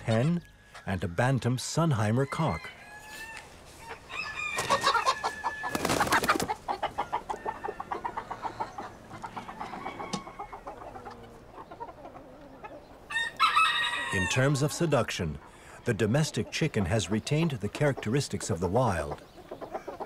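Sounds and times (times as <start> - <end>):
chickens clucking and squawking: 0.0 - 20.0.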